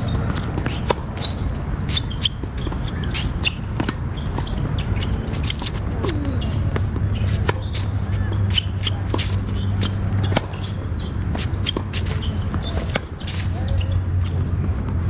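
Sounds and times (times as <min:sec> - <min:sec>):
tennis ball strikes and bounces: 0:00.0 - 0:13.5
sneakers squeaking on court: 0:00.0 - 0:15.0.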